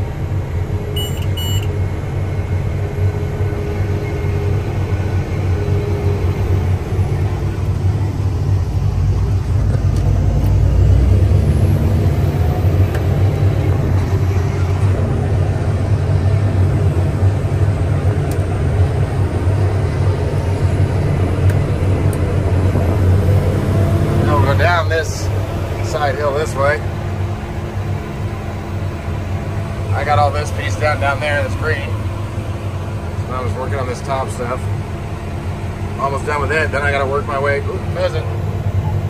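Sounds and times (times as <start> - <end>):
deep rumble: 0.0 - 39.0
engine droning inside cab: 0.0 - 39.0.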